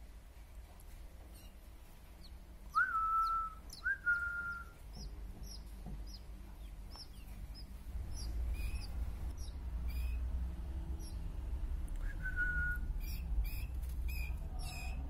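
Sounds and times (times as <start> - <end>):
small birds chirping: 0.5 - 15.0.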